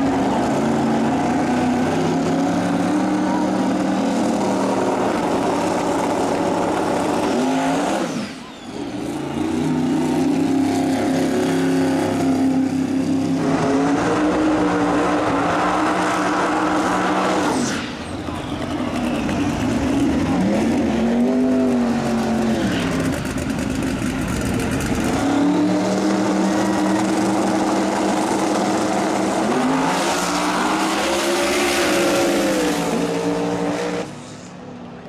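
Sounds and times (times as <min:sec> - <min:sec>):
car engine during burnout: 0:00.0 - 0:35.0
race car engines at high revs: 0:00.0 - 0:35.0.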